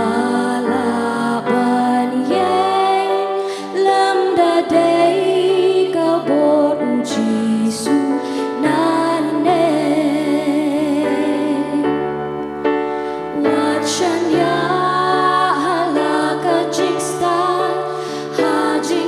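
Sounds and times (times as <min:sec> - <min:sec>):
women singing gospel together: 0:00.0 - 0:11.8, 0:13.3 - 0:19.0.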